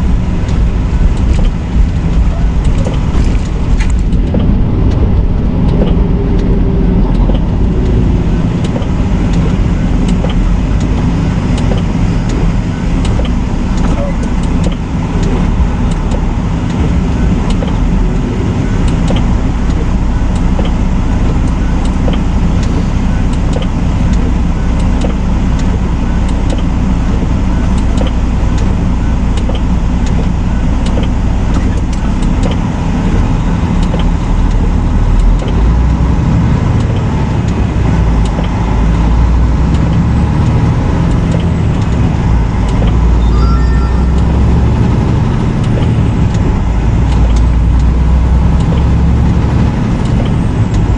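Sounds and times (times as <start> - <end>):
truck engine and road rumble: 0.0 - 50.9
light ticks: 0.4 - 50.9.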